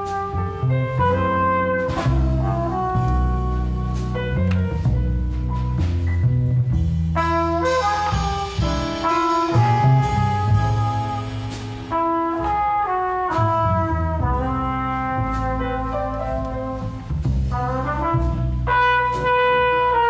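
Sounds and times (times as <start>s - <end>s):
trumpet melody: 0.0s - 5.9s, 7.1s - 20.0s
drums: 0.0s - 20.0s
piano: 0.0s - 20.0s
upright bass: 0.0s - 20.0s.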